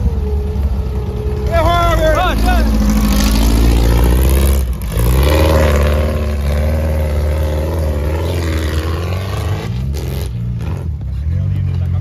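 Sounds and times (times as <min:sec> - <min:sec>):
buggy engine running hard: 0:00.0 - 0:12.0.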